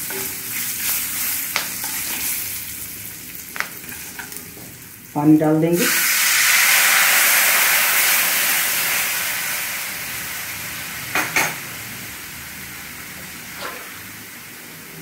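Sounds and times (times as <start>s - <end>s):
hot oil sizzling in a frying pan: 0.0s - 15.0s.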